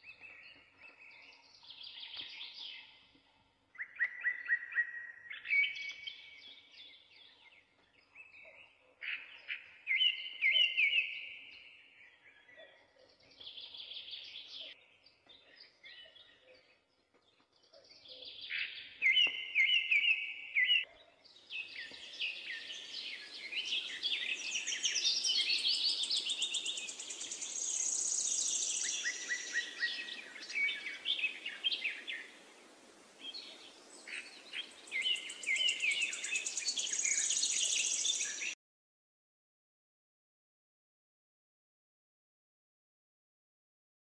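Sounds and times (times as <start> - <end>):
songbirds chirping and singing: 0.0 - 38.6.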